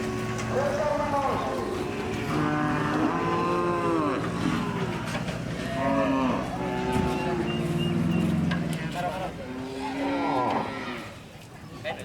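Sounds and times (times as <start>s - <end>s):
cattle mooing: 0.0s - 8.8s, 9.4s - 11.2s.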